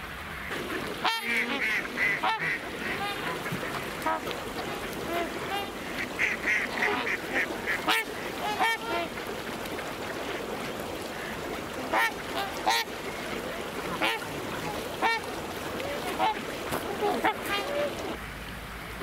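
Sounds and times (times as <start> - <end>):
geese honking: 0.4 - 9.3, 11.0 - 18.2.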